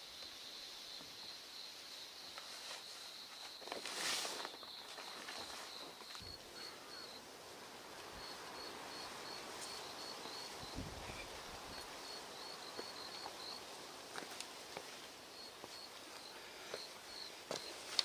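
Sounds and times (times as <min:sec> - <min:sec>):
insect chirping: 0:00.0 - 0:18.0
soft even hiss: 0:00.0 - 0:18.0.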